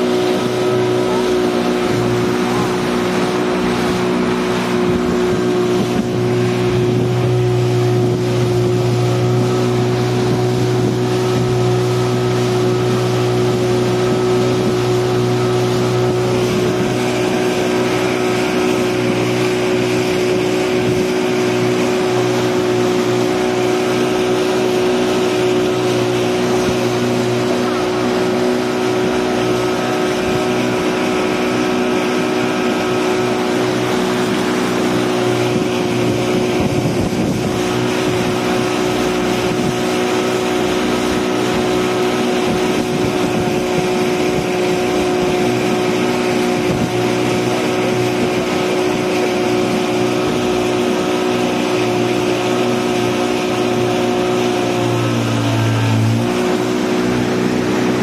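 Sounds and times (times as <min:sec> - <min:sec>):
speedboat engine running: 0:00.0 - 0:58.0
water rushing along hull: 0:00.0 - 0:58.0.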